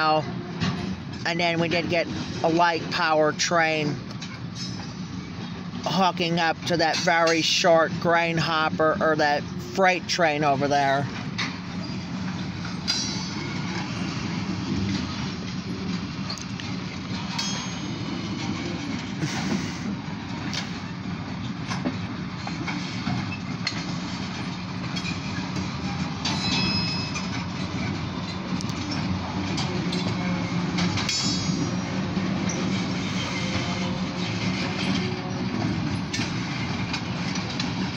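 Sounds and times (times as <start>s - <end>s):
freight cars rumbling past: 0.0s - 37.9s.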